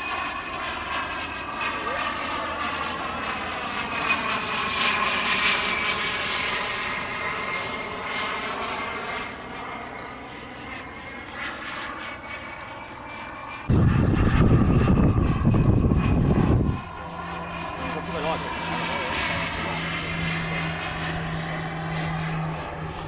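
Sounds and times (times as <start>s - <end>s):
jet turbine whining: 0.0s - 23.0s.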